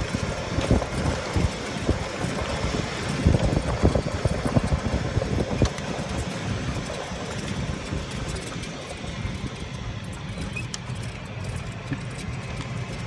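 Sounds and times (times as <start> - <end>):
steady rushing noise: 0.0 - 13.0
wind buffeting microphone: 0.0 - 13.0.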